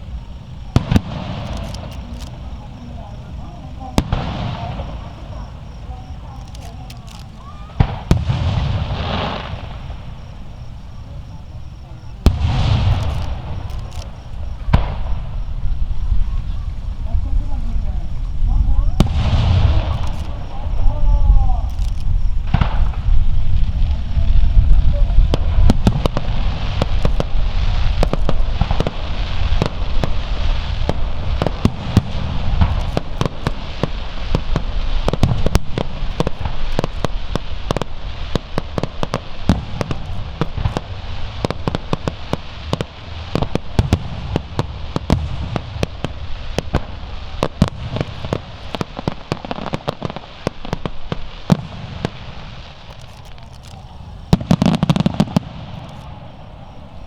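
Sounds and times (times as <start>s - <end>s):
fireworks booms: 0.0s - 57.0s
fireworks cracking: 0.0s - 57.0s.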